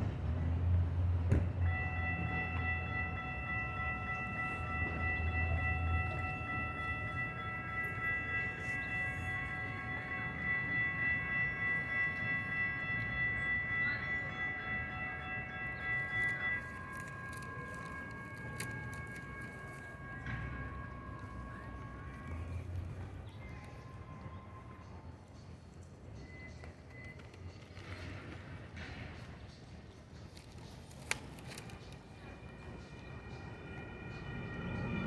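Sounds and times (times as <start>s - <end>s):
light rail train rumble: 0.0s - 35.0s
high-pitched multi-tone whine: 1.2s - 28.1s, 31.6s - 35.0s.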